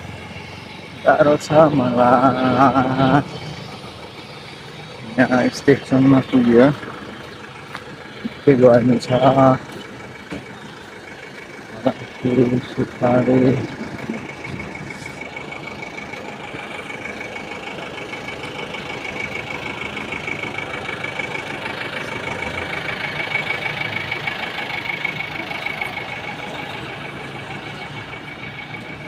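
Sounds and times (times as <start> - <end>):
engine idling with high whine: 0.0 - 29.0.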